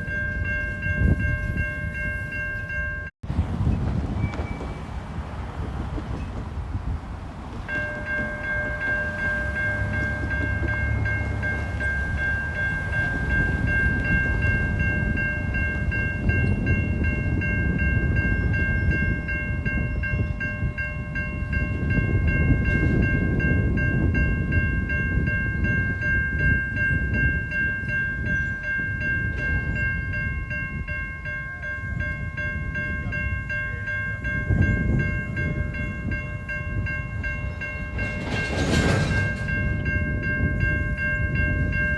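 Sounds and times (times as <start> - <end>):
train rumbling on tracks: 0.0 - 41.9.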